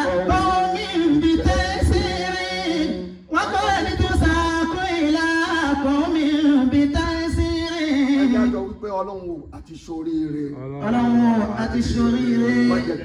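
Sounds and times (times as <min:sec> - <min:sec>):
man singing unaccompanied: 0:00.0 - 0:08.8, 0:10.8 - 0:13.0.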